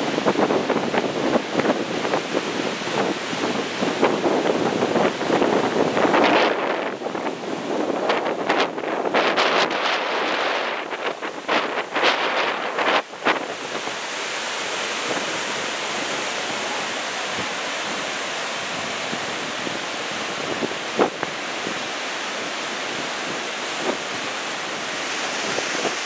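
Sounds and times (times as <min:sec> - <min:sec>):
heavy surf breaking: 0:00.0 - 0:26.0
wind on microphone: 0:00.0 - 0:26.0.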